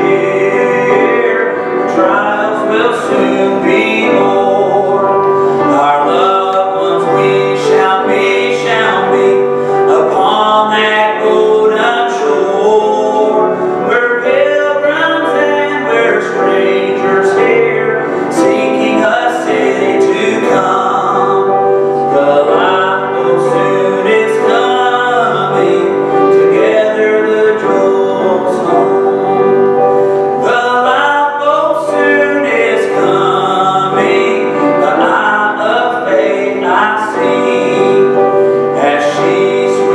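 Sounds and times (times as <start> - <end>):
man singing gospel song: 0.0 - 39.9
piano accompaniment: 0.0 - 39.9.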